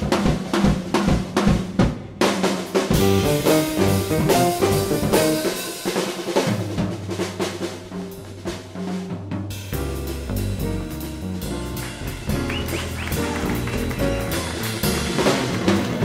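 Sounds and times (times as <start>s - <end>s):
music with drum beat: 0.0s - 16.0s.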